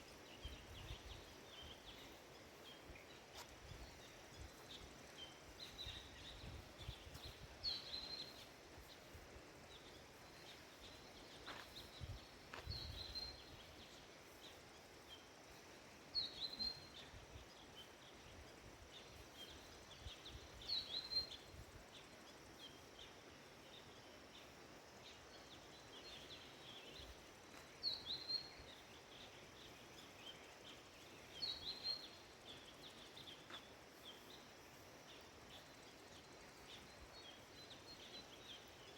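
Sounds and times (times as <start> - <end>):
faint outdoor background noise: 0.0 - 38.9.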